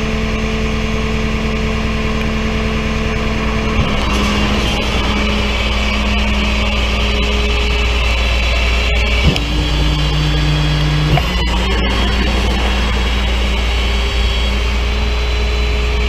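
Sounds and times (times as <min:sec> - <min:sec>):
tow truck engine running: 0:00.0 - 0:16.0.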